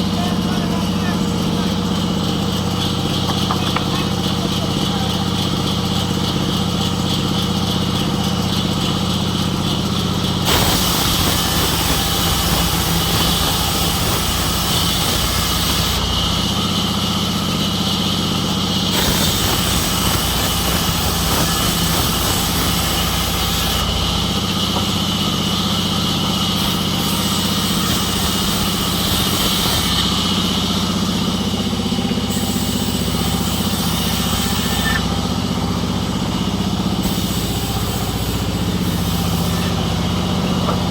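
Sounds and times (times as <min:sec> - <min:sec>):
sawmill machinery humming: 0:00.0 - 0:40.9.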